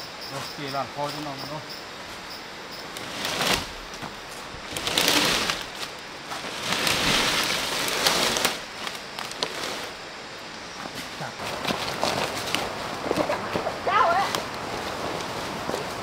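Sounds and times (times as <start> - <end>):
leaves and fronds rustling: 0.0 - 16.0.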